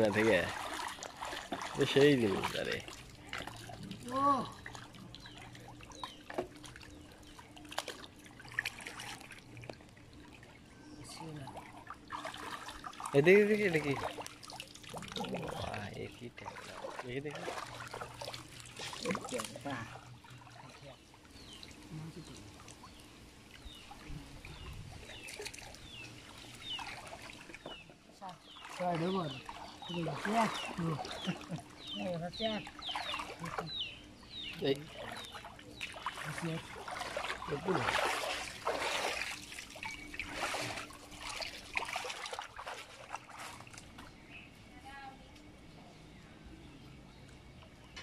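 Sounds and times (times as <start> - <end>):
small splashes: 0.0 - 44.2
shallow water sloshing: 0.0 - 44.5
birds chirping: 0.0 - 48.0
low background hum: 0.0 - 48.0.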